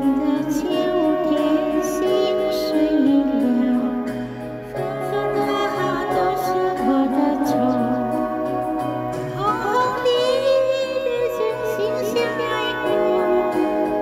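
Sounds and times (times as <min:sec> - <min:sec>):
backing music: 0:00.0 - 0:14.0
person singing ballad: 0:00.0 - 0:14.0.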